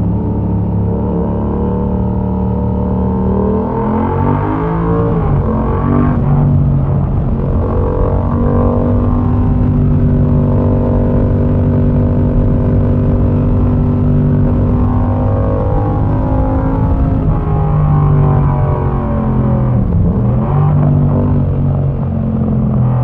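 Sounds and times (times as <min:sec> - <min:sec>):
motorcycle engine riding: 0:00.0 - 0:23.0.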